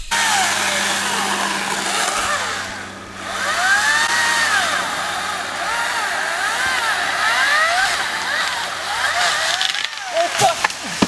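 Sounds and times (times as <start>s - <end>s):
electric chainsaw motor whine: 0.0s - 11.0s
rasp of saw cutting wood: 0.0s - 11.0s.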